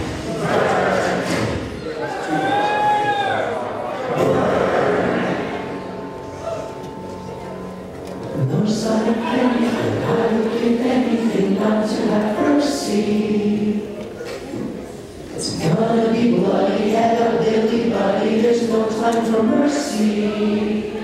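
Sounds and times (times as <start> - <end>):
choir singing long notes: 0.0 - 1.8, 3.2 - 14.4, 15.4 - 21.0.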